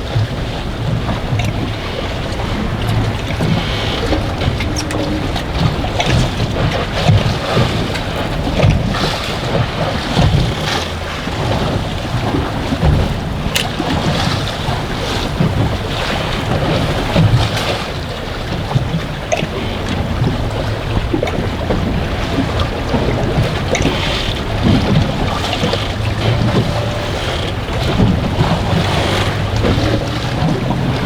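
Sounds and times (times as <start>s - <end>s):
waves slapping boat: 0.0s - 31.0s
wind buffeting microphone: 0.0s - 31.0s.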